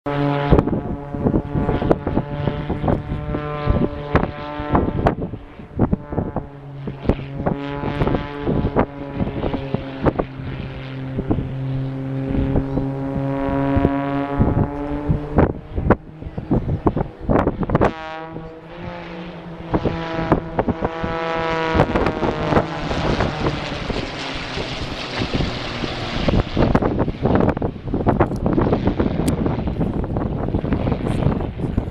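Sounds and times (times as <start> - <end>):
propeller aircraft engine droning: 0.0 - 31.9
wind buffeting microphone: 0.1 - 31.9.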